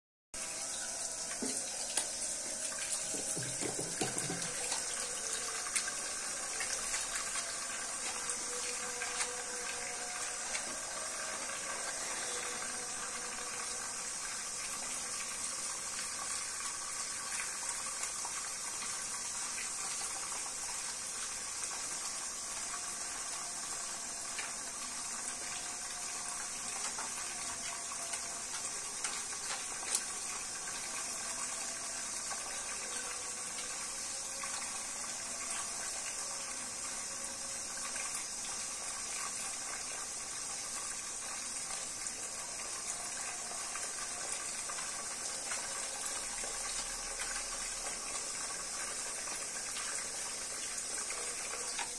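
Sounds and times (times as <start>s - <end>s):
tap water running into sink: 0.4s - 51.9s.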